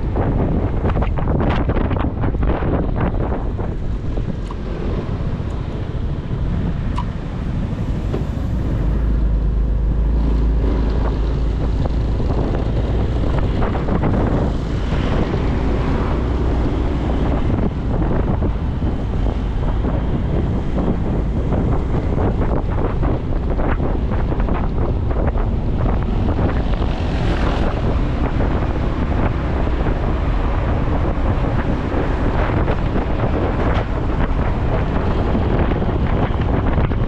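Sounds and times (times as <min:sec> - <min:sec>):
heavy low rumble: 0:00.0 - 0:37.0
wind buffeting microphone: 0:00.0 - 0:37.0
motorcycle engine: 0:01.2 - 0:37.0.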